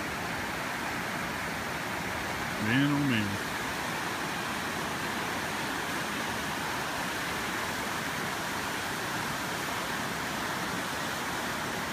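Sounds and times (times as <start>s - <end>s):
floodwater rushing in a creek: 0.0s - 11.9s.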